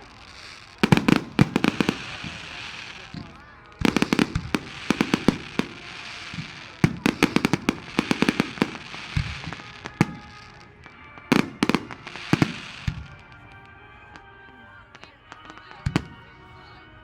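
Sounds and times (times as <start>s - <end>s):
hissing crackle: 0.0s - 16.5s
fireworks cracks and bangs: 0.0s - 17.0s.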